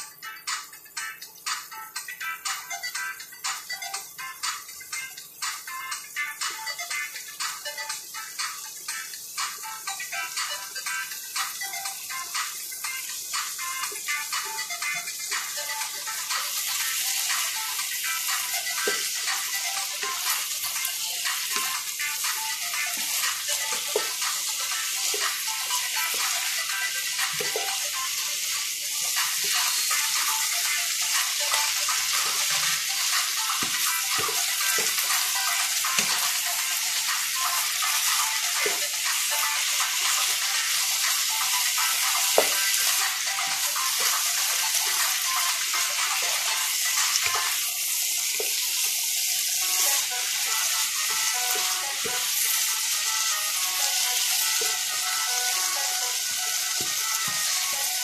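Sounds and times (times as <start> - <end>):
food sizzling in a wok: 2.4 - 58.0.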